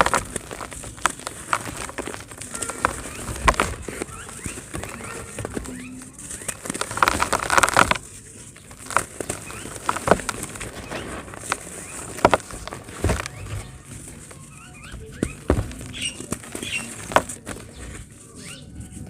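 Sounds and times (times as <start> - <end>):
cement chunks crunching: 0.0 - 19.0.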